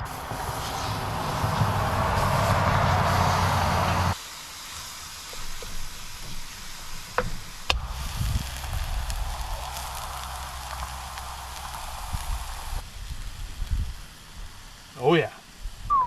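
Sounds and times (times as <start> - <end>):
ground beef sizzling in a pan: 0.5 - 15.9.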